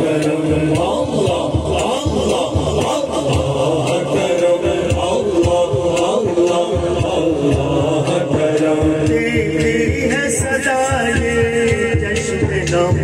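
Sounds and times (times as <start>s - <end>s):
low rhythmic pulse: 0.0s - 13.0s
men singing over loudspeaker: 0.0s - 13.0s.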